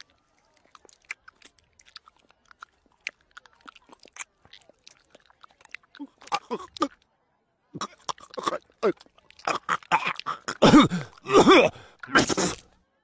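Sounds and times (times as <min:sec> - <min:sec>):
cartoon dog chewing: 0:00.0 - 0:07.1, 0:07.8 - 0:12.8.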